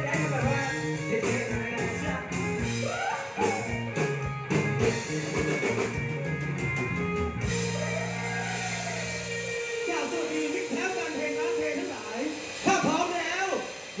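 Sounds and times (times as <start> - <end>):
drum kit: 0.0 - 14.0
electric guitar: 0.0 - 14.0.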